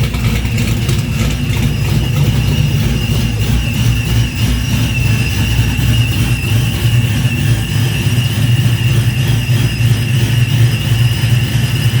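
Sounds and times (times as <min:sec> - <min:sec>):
engine idling: 0:00.0 - 0:12.0
high whine: 0:00.0 - 0:12.0.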